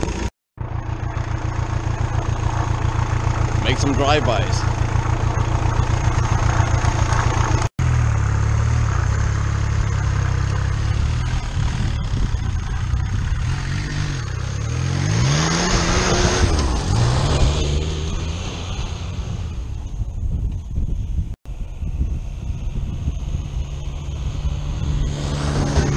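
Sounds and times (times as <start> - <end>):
diesel motorcycle engine revving: 0.0 - 20.4, 21.9 - 25.9.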